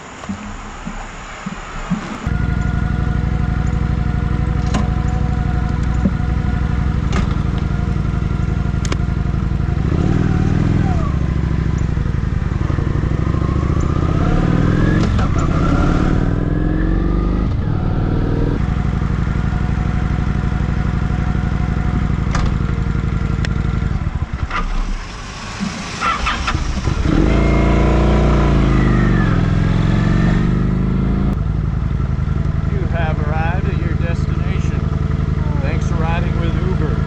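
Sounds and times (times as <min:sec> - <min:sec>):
motorcycle engine accelerating: 0:01.4 - 0:25.3, 0:26.0 - 0:37.0.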